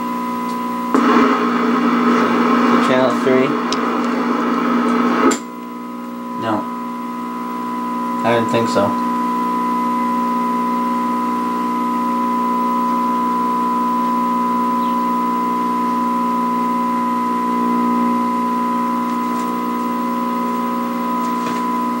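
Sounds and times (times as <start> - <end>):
television electrical hum and buzz: 0.0 - 22.0.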